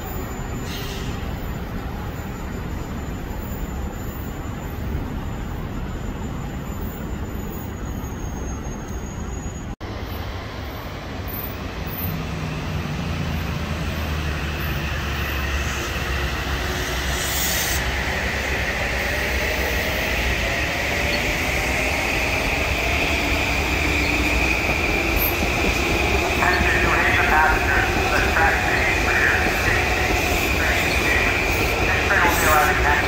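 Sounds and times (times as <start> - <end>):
train rolling past: 0.0 - 33.0.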